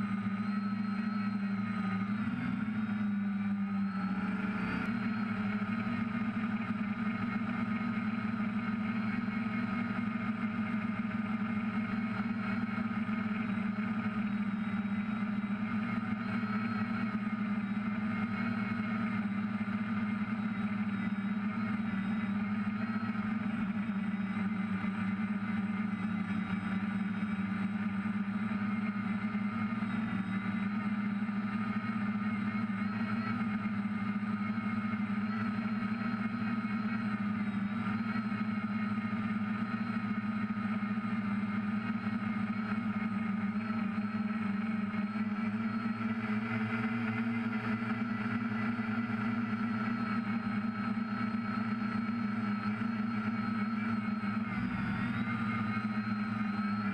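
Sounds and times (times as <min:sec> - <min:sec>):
drone motors humming: 0:00.0 - 0:56.9.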